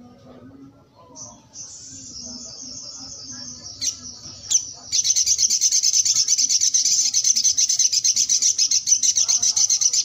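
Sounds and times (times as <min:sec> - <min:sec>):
songbird trilling: 0:01.2 - 0:10.0.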